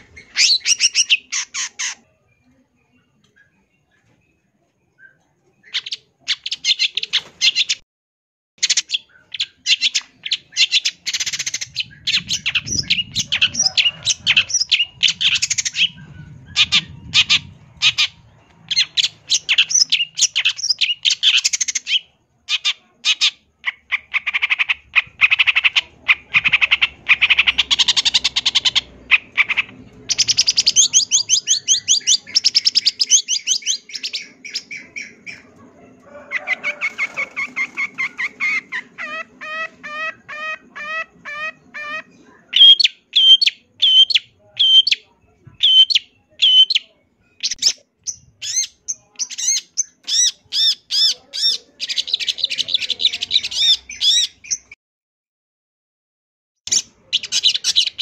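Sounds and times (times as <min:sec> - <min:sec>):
bird singing chattering song: 0:00.0 - 0:07.8, 0:08.6 - 0:35.5, 0:36.8 - 0:54.8, 0:56.7 - 0:58.0.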